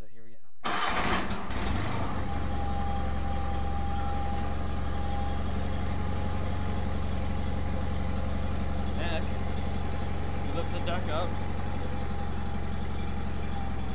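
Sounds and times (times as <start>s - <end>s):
garden tractor engine idling: 0.7s - 13.9s
thin steady whine: 2.4s - 13.8s.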